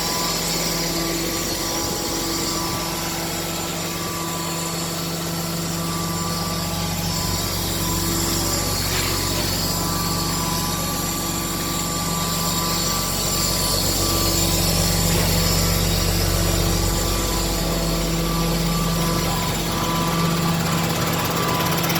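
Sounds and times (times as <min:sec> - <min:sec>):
diesel truck engine running: 0:00.0 - 0:21.9.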